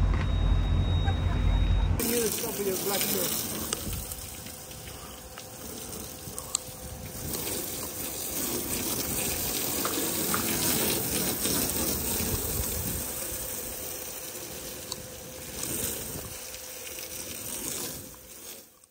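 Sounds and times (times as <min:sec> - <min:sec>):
hose water spraying: 0:02.0 - 0:18.9
water splashing on pavement: 0:02.0 - 0:18.9.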